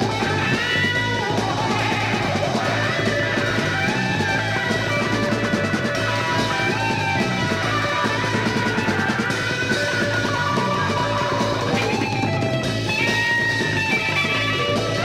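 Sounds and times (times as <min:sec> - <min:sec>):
guitar melody: 0:00.0 - 0:15.0
rock band playing: 0:00.0 - 0:15.0.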